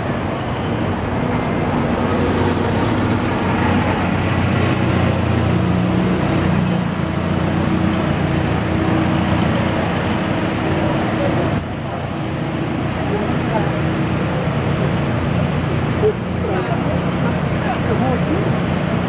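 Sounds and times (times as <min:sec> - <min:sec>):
large vehicle engine hum: 0:00.0 - 0:19.0
rumble of cars: 0:00.0 - 0:19.0.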